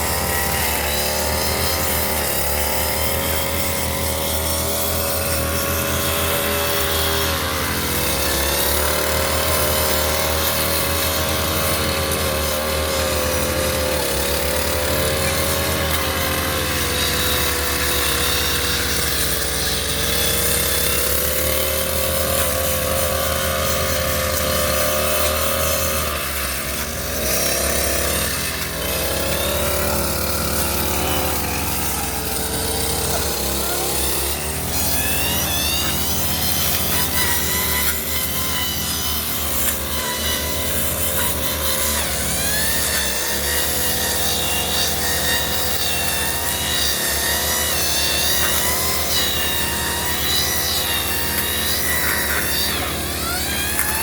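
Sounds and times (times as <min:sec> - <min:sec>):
brush cutter engine running: 0:00.0 - 0:54.0.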